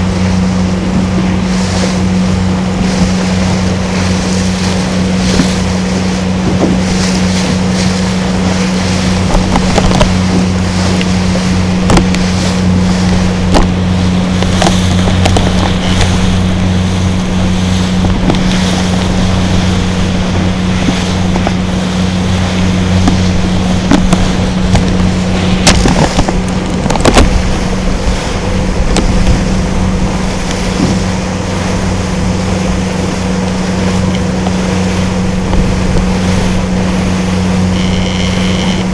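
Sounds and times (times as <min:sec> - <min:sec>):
boat engine humming: 0:00.0 - 0:38.9
water along hull: 0:00.0 - 0:38.9
wind on microphone: 0:00.0 - 0:38.9.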